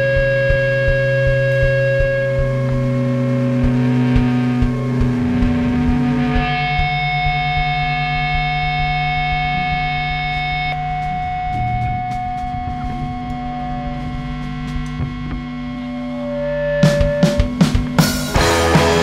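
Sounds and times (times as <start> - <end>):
distorted electric guitars droning: 0.0 - 19.0
low thumps: 0.0 - 19.0.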